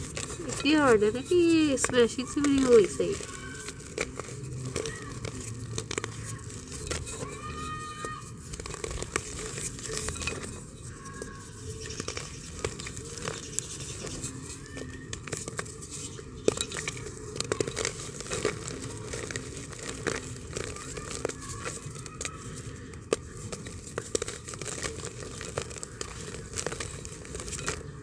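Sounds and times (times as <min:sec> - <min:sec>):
dry earth lumps crackling crushed: 0:00.0 - 0:28.0
powder pattering into clay pot: 0:00.0 - 0:28.0.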